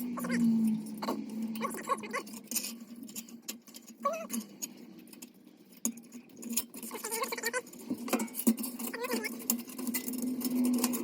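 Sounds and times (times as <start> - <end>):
metallic squeaks: 0.0 - 4.6, 5.9 - 11.0.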